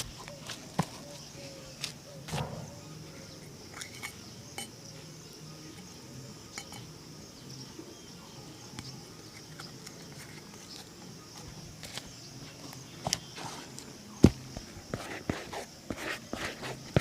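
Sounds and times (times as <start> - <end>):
faint high-pitched hiss: 0.0 - 17.0.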